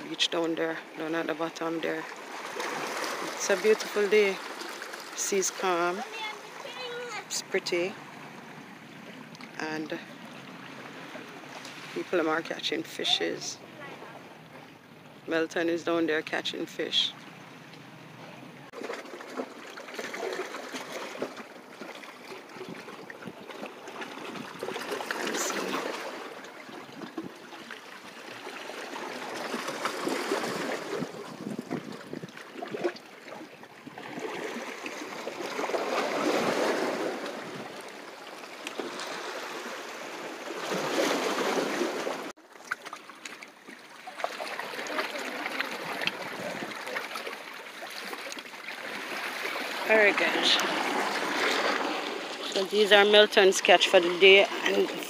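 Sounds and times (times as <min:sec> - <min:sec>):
waves lapping against rocks: 0:00.0 - 0:55.0.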